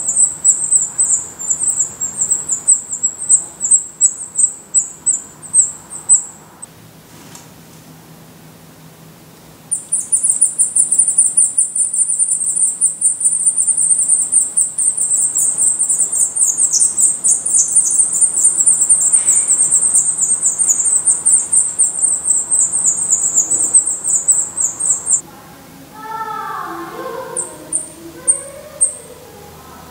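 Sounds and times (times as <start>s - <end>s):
nestlings begging calls: 0.0s - 6.7s, 9.7s - 25.2s, 26.9s - 29.9s.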